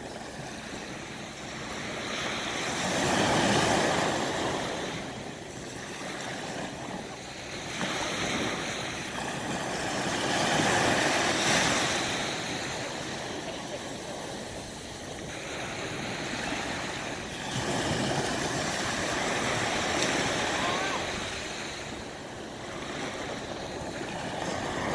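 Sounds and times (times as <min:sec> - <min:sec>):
sea waves washing onto shore: 0:00.0 - 0:24.9
wind: 0:00.0 - 0:24.9.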